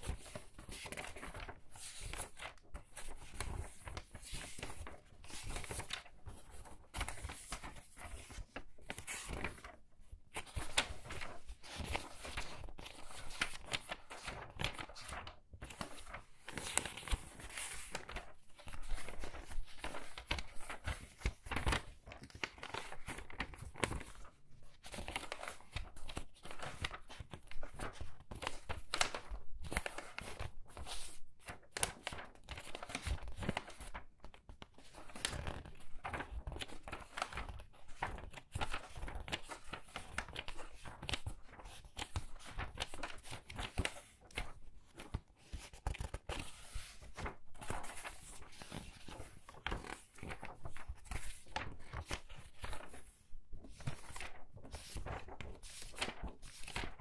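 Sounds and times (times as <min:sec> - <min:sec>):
book pages flipping: 0:00.0 - 0:57.0.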